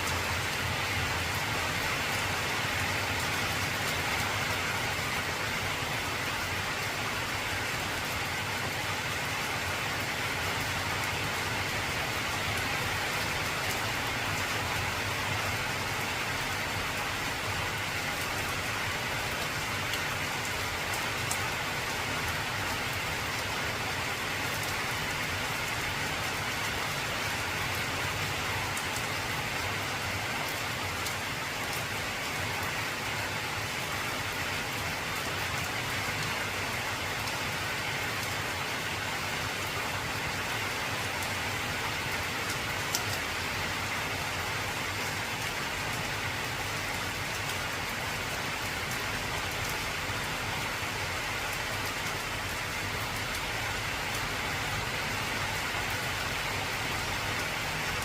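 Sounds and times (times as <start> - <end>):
heavy rain on tin roof: 0.0 - 58.0.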